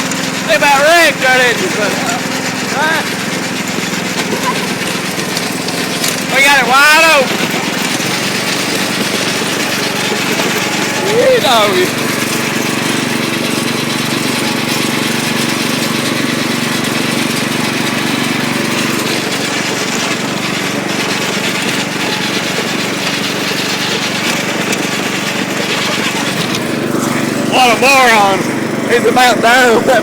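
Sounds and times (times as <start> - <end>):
lawnmower engine at full throttle: 0.0 - 30.0.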